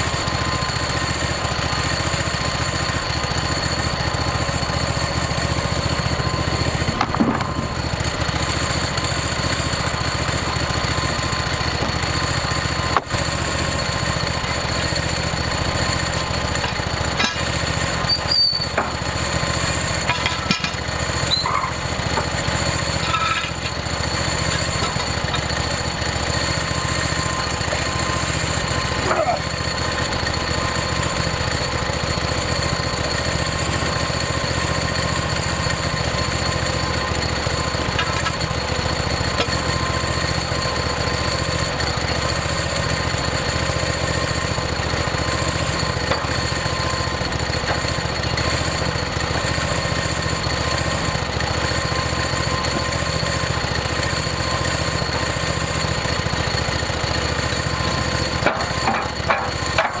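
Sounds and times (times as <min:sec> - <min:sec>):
band saw blade whine: 0:00.0 - 1:00.0
sawmill engine running: 0:00.0 - 1:00.0.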